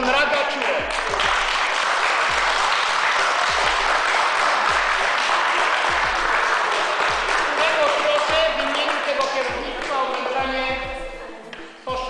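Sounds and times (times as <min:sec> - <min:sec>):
people applauding: 0:00.0 - 0:11.3.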